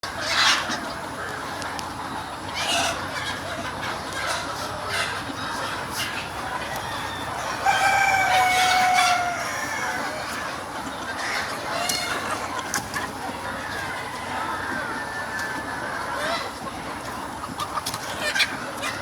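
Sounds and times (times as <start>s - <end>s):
chickens clucking and calling: 0.0s - 19.0s.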